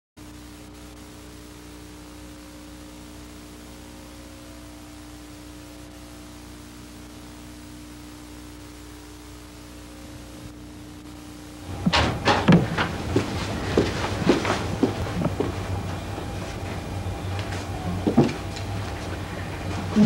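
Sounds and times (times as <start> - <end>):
electrical hum: 0.2 - 20.0
tape hiss: 0.2 - 20.0.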